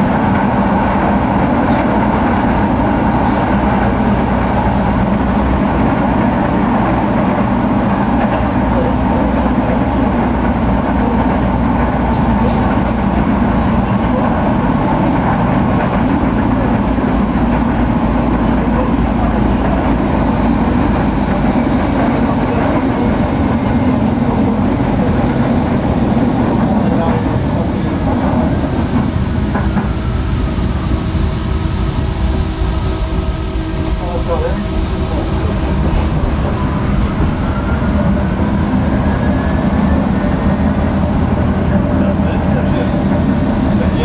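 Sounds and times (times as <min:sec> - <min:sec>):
clickety-clack of rails: 0:00.0 - 0:44.0
tram wheels rumbling on track: 0:00.0 - 0:44.0.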